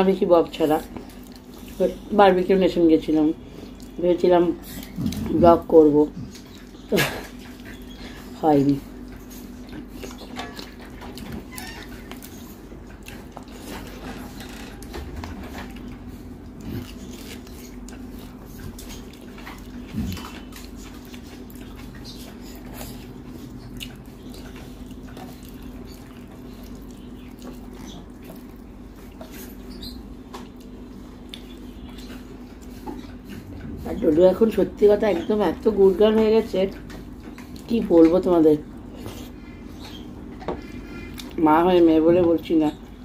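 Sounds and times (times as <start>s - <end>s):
wet chewing: 0.0s - 41.5s.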